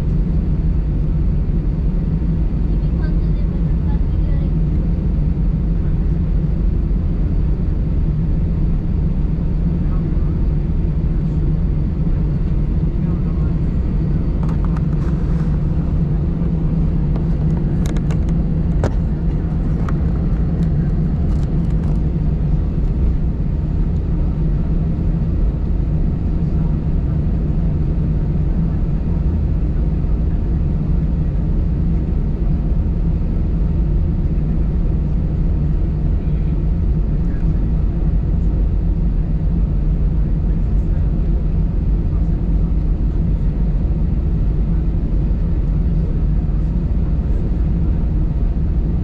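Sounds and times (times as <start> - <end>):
airplane cabin engine hum: 0.0 - 49.0.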